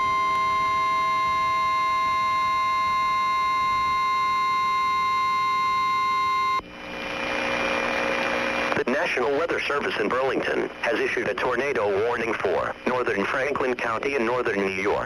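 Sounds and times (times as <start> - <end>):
broadcast static hiss: 0.0 - 15.0.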